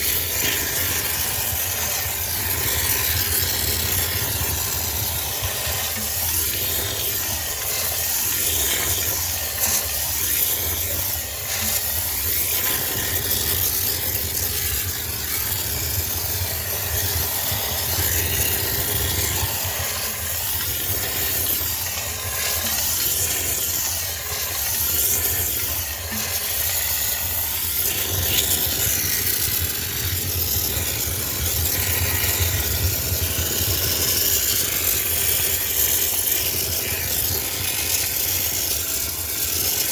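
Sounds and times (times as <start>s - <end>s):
steam jet hissing: 0.0s - 39.9s.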